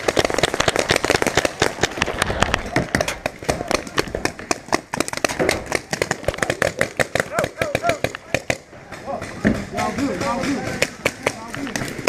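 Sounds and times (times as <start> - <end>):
paintball guns firing: 0.0 - 12.0.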